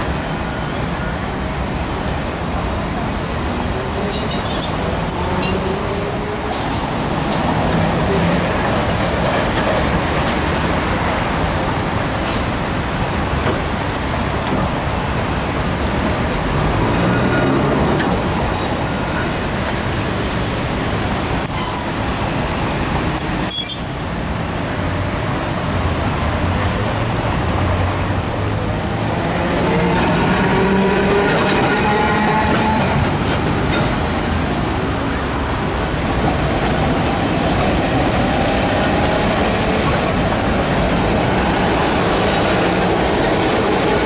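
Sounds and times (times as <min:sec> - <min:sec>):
traffic rumble: 0:00.0 - 0:44.0
tram passing with whine: 0:00.0 - 0:44.0.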